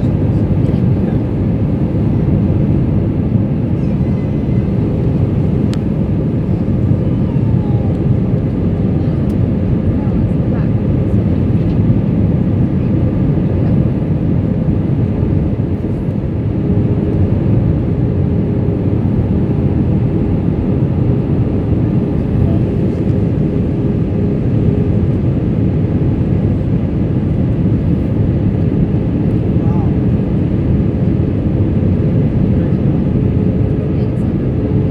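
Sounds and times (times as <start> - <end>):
airliner cabin engine drone: 0.0 - 34.9.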